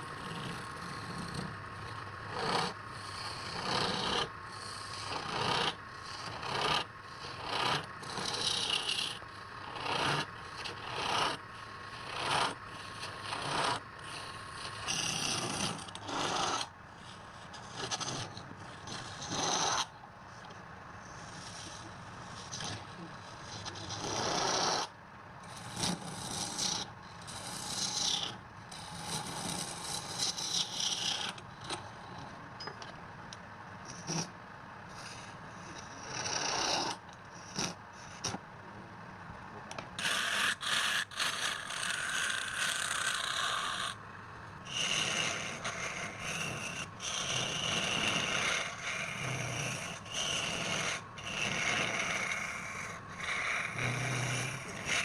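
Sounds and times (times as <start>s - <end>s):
tool scraping wood on lathe: 0.0s - 24.9s, 25.5s - 32.4s, 34.9s - 38.4s, 40.0s - 44.0s, 44.7s - 55.0s.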